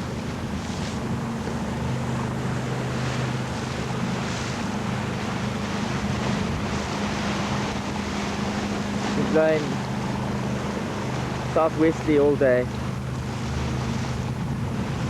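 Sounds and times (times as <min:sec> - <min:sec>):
steady low hum: 0:00.0 - 0:15.0
water rushing along hull: 0:00.0 - 0:15.0
wind buffeting microphone: 0:00.0 - 0:15.0.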